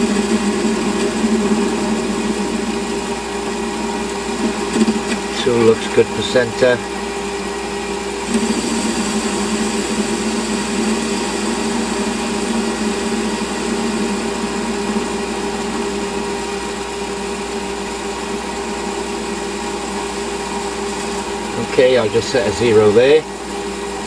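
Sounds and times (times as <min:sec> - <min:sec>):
lathe tool cutting metal: 0:00.0 - 0:24.0
metal lathe humming: 0:00.0 - 0:24.0.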